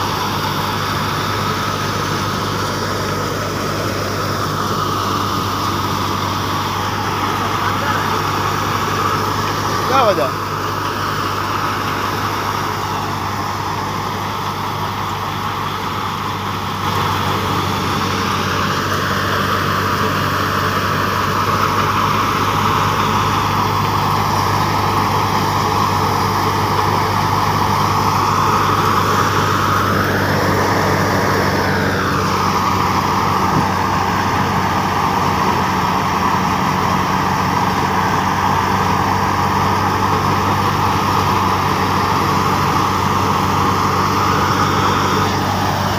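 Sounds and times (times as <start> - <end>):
thresher high hum: 0.0 - 45.9
tractor engine drone: 0.0 - 45.9.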